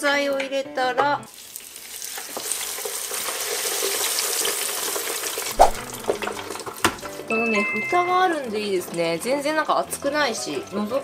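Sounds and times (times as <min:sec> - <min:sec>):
fries sizzling in hot oil: 0:01.2 - 0:11.0.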